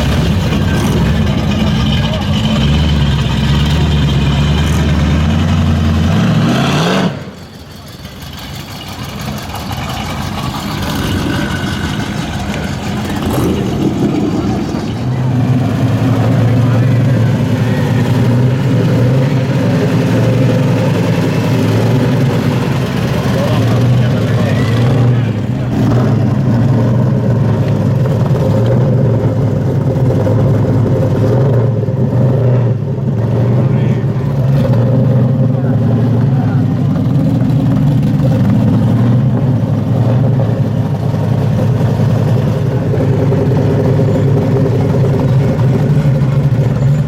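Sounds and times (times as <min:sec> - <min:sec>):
car engine rumbling at low revs: 0:00.0 - 0:47.0.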